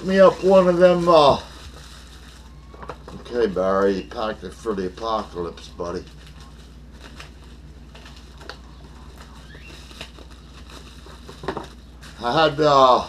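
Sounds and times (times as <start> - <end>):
packing material rustling: 0.0 - 13.0.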